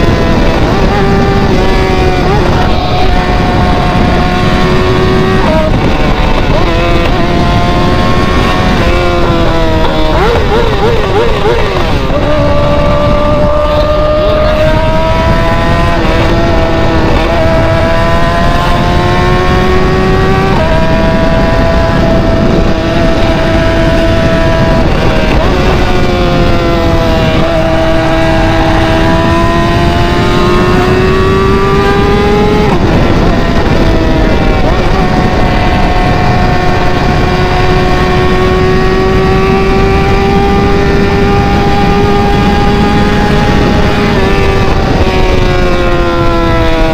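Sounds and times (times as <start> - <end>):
loud car engine revving: 0.0 - 46.9.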